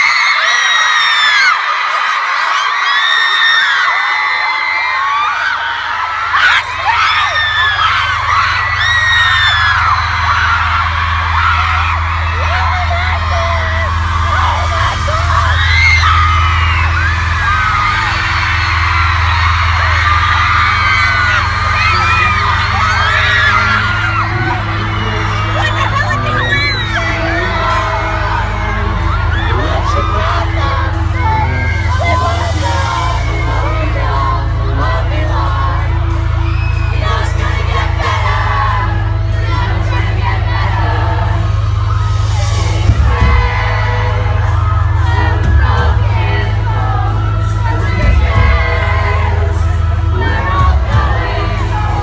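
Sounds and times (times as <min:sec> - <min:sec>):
crowd screaming and cheering: 0:00.0 - 0:52.0
live pop-rock band: 0:06.0 - 0:52.0
low droning note: 0:07.2 - 0:52.0.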